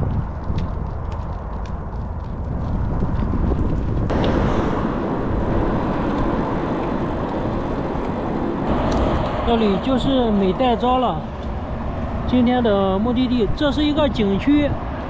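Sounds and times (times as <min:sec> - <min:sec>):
bicycle tyre noise: 0:00.0 - 0:15.0
wind and road noise: 0:00.0 - 0:15.0.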